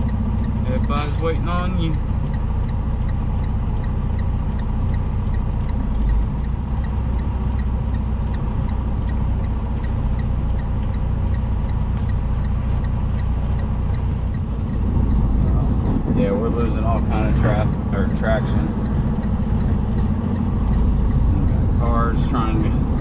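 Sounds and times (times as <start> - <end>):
diesel truck engine rumbling: 0.0 - 23.0
faint regular ticking: 0.0 - 23.0.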